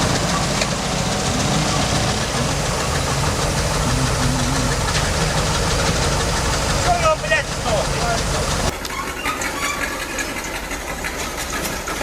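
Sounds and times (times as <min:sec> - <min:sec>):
heavy machinery diesel engines: 0:00.0 - 0:12.0.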